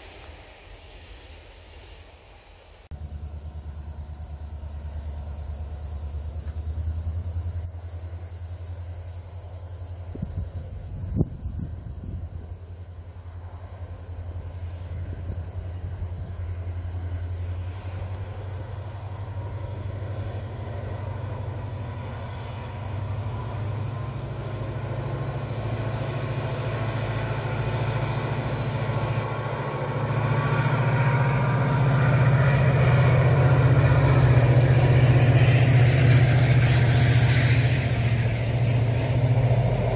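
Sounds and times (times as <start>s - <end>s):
crickets chirping: 0.0s - 39.9s
diesel locomotive engine drone: 0.0s - 39.9s.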